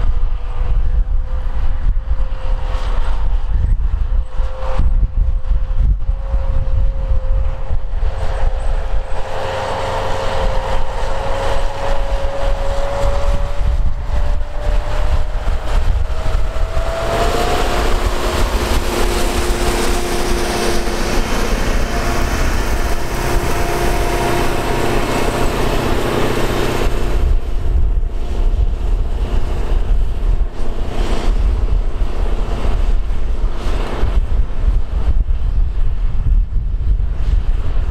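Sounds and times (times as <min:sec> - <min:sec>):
tractor engine rumbling under load: 0:05.4 - 0:35.9.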